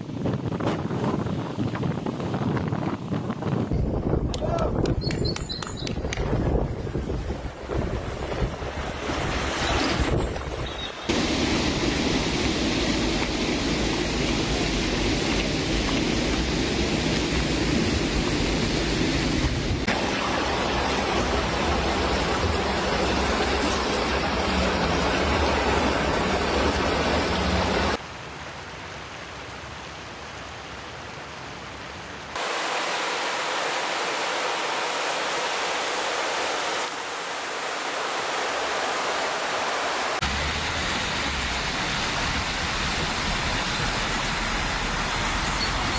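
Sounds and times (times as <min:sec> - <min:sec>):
wind: 0:00.0 - 0:45.9
rushing water: 0:05.8 - 0:45.9.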